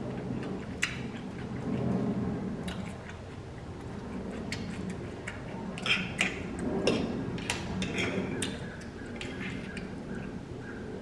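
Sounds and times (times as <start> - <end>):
chewing with mouth clicks: 0.0 - 10.3.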